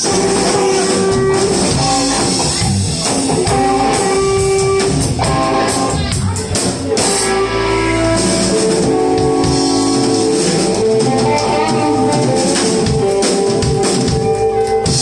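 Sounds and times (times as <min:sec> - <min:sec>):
live blues band playing: 0:00.0 - 0:15.0.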